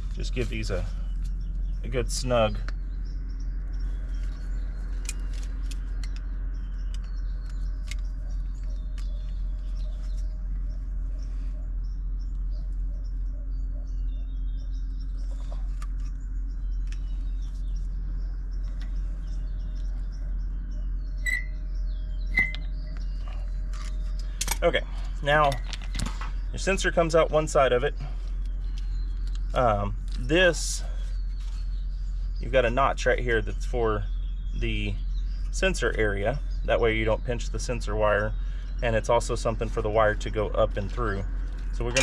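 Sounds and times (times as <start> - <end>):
birds chirping faintly: 0.0 - 42.0
steady low hum: 0.0 - 42.0.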